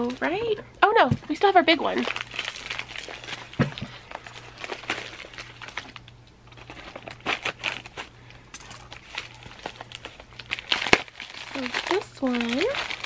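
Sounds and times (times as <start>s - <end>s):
packaging crinkling and rustling: 1.2s - 13.0s.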